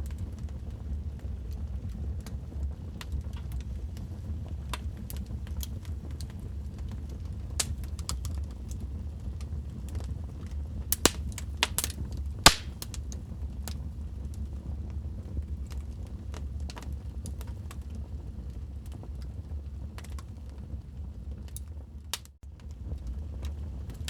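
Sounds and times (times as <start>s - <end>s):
flames low rumble: 0.0s - 24.0s
fire pops and snaps: 0.1s - 20.6s.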